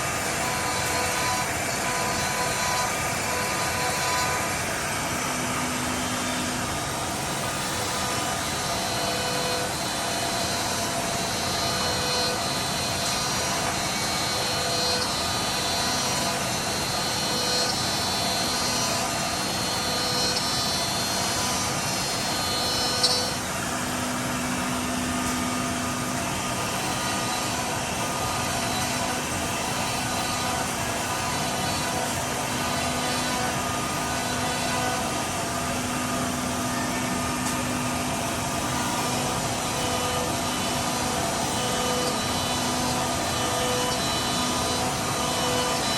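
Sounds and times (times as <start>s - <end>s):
cnc machine drilling and cutting: 0.0s - 45.9s.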